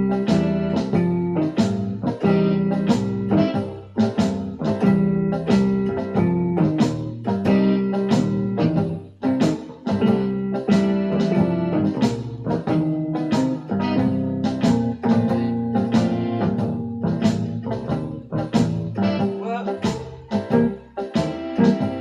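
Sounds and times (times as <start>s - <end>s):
electronic keyboard playing blues: 0.0s - 22.0s.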